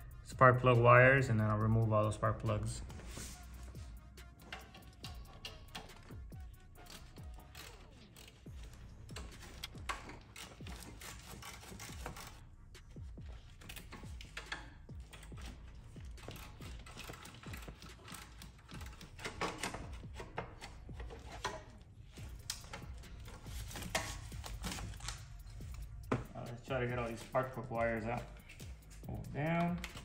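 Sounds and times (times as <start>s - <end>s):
ratchet wrench clicking: 3.7s - 21.5s, 22.2s - 30.0s.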